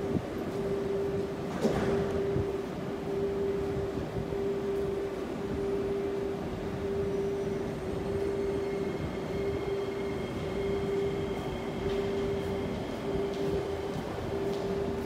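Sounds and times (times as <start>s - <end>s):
faint high whine: 0.0s - 15.0s
train rumbling on track: 0.0s - 15.0s.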